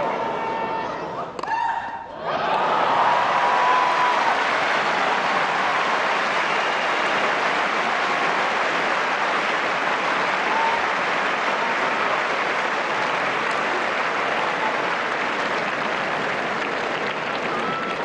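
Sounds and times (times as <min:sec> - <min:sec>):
crowd applauding: 0:02.3 - 0:18.0.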